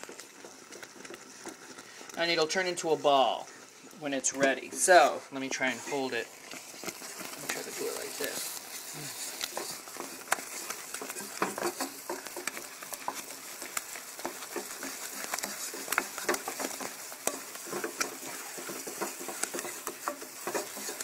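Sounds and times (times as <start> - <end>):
light sizzle: 0.0 - 21.0
wooden spoon scraping a pan: 0.0 - 21.0.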